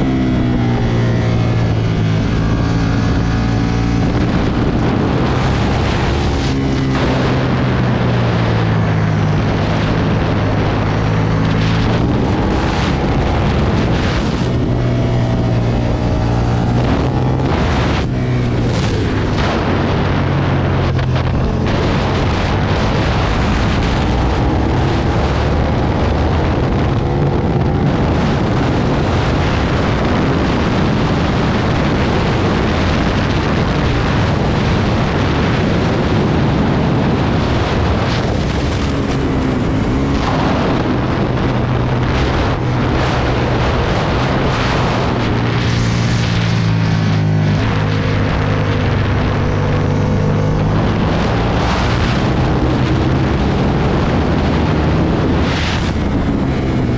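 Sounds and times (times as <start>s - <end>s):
motorcycle engine revving: 0.0s - 56.9s
wind buffeting microphone: 0.0s - 56.9s.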